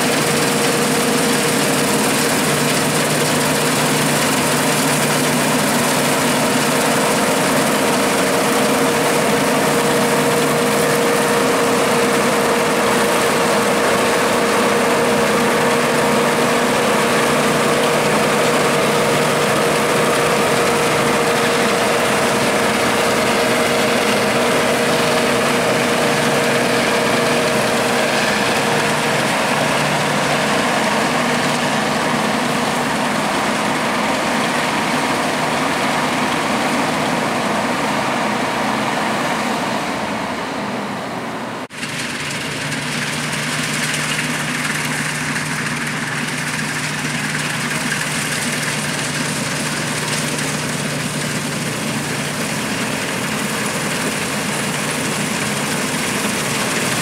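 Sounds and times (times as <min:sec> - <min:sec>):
combine harvester engine running: 0:00.0 - 0:57.0
steady whining tone: 0:00.0 - 0:57.0.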